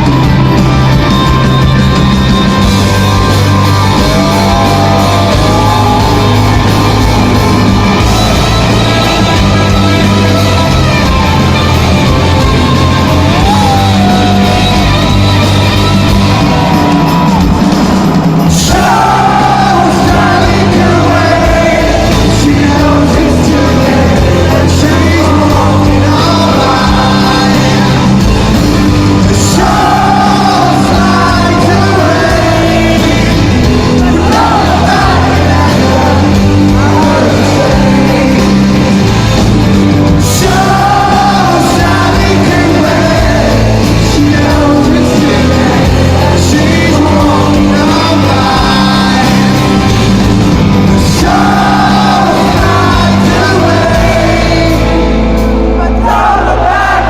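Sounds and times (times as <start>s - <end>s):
audience singing and shouting: 0.0s - 57.0s
live rock band with vocals: 0.0s - 57.0s.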